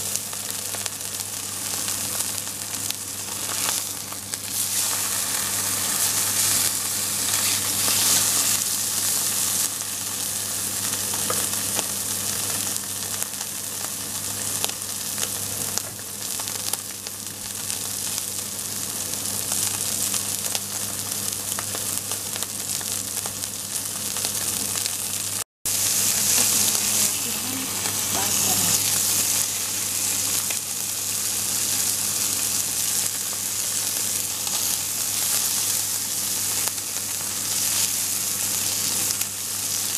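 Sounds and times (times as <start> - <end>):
steak sizzling in a skillet: 0.0 - 39.9.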